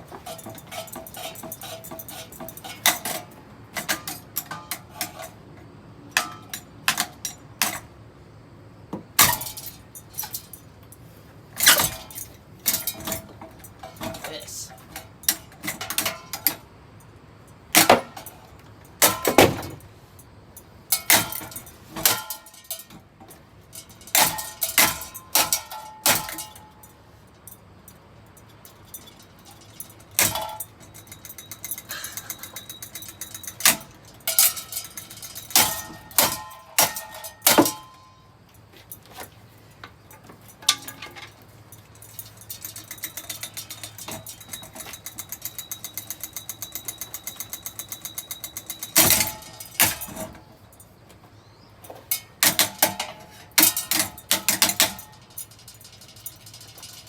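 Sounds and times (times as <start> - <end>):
ringing metal clangs: 0.0 - 5.3, 6.1 - 7.8, 9.2 - 10.7, 11.6 - 16.6, 17.8 - 19.8, 20.6 - 39.0, 40.0 - 51.0, 51.8 - 57.0
fan rattling: 0.0 - 8.0, 9.0 - 57.0.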